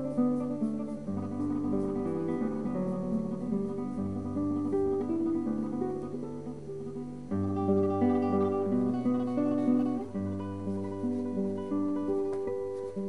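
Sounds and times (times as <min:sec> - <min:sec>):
acoustic guitar plucked notes: 0:00.0 - 0:13.0.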